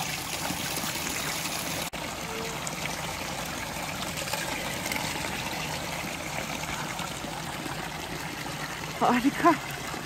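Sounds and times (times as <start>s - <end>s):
spring water trickling: 0.0s - 10.0s.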